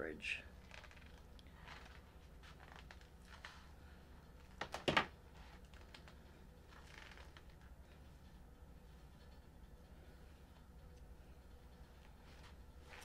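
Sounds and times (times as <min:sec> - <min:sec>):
low hum: 0:00.0 - 0:13.0
hair rustling: 0:00.6 - 0:13.0.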